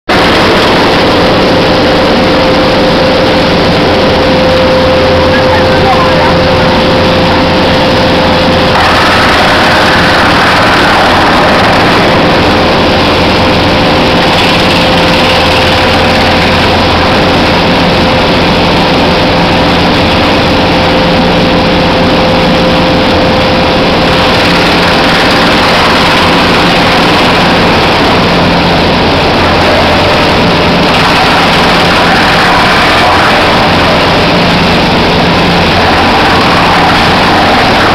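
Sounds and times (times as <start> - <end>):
belt conveyor on rollers: 5.2 - 37.9.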